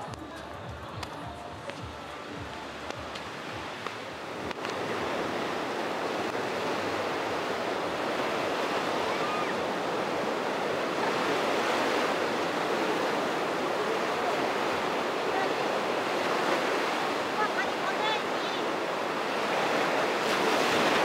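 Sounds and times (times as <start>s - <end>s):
ocean surf breaking on beach: 1.7s - 21.0s.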